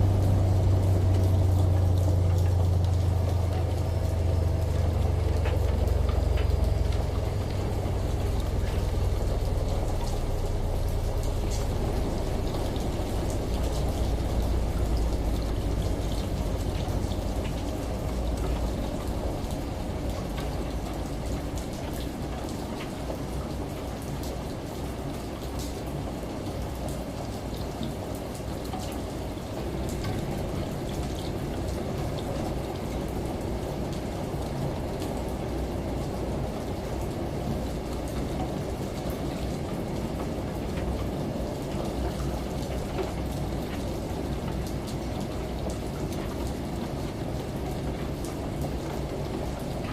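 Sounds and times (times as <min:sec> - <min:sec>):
running water: 0:00.0 - 0:49.9
steady rain: 0:00.0 - 0:49.9
washing machine rumble: 0:00.0 - 0:49.9.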